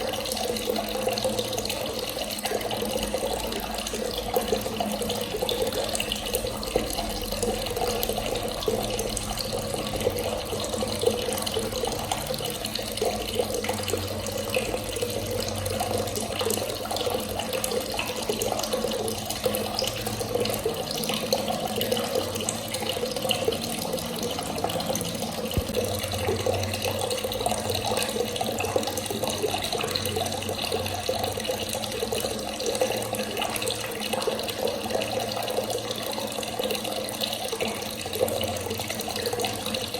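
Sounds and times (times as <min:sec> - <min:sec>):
tap water running and splashing: 0:00.0 - 0:39.9.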